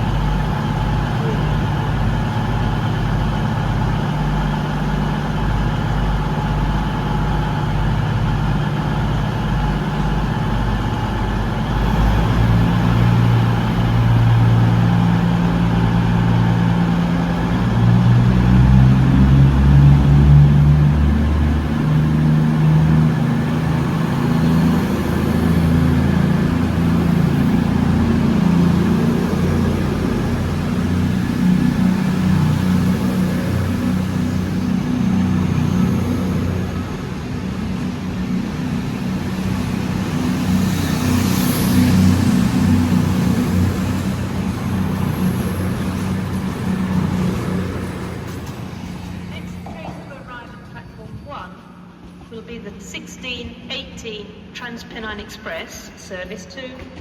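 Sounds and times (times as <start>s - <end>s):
diesel train engine: 0.0s - 57.0s.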